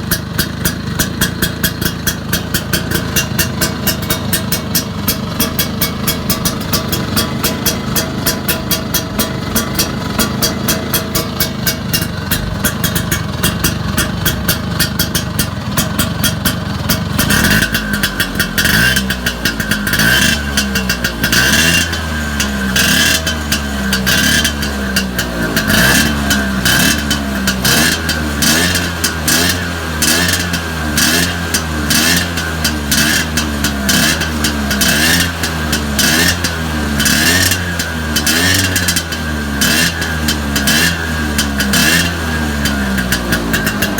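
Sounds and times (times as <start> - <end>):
scooter engine idling and revving: 0.0 - 43.9.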